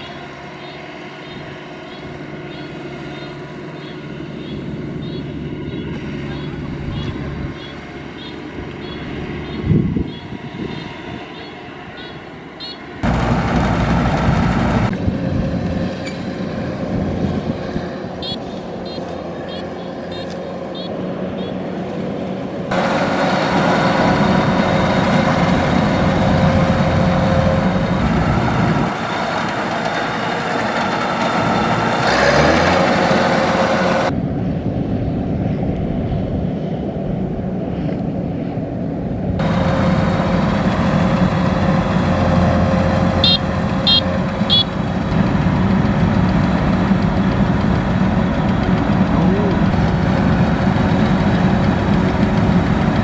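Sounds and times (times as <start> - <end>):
diesel combine harvester running: 0.0 - 53.0.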